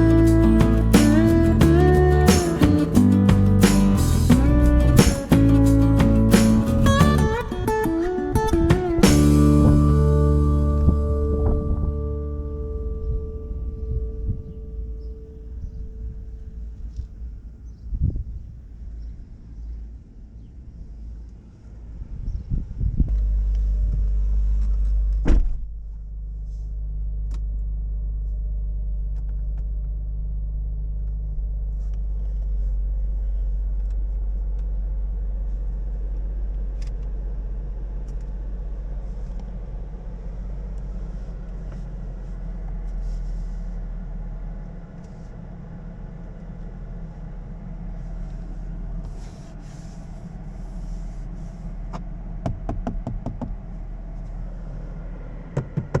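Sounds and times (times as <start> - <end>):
car engine idling: 0.0 - 22.2, 23.2 - 56.0.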